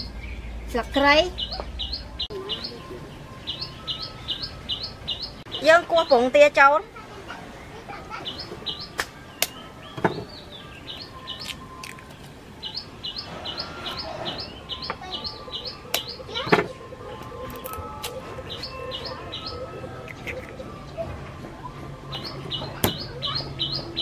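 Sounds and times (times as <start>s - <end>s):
bird singing chirped phrase: 0.0s - 6.6s, 8.2s - 21.0s, 21.6s - 24.0s.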